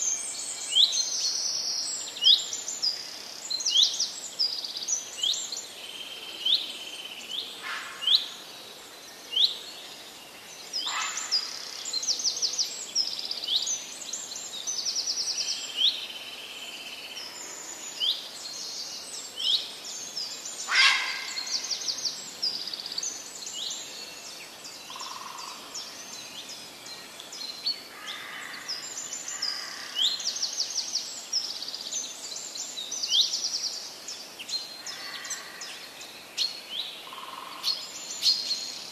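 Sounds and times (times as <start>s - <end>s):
forest birds chirping: 0.0s - 38.9s
steady hiss: 0.0s - 38.9s.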